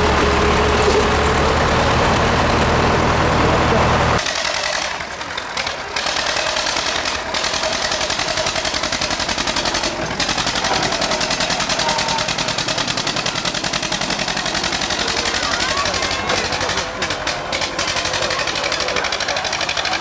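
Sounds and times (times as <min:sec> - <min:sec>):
tractor engine running hard: 0:00.0 - 0:20.0.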